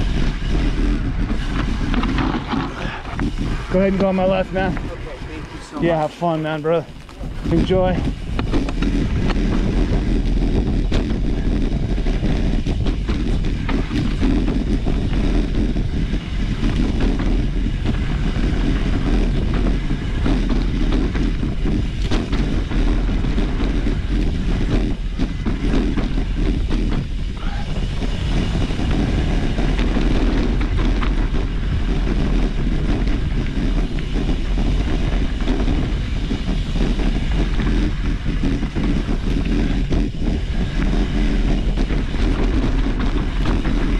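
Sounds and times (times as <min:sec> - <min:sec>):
bike clicks and rattles: 0:00.0 - 0:43.9
tyres rumbling on dirt: 0:00.0 - 0:43.9
wind noise on microphone: 0:00.0 - 0:43.9.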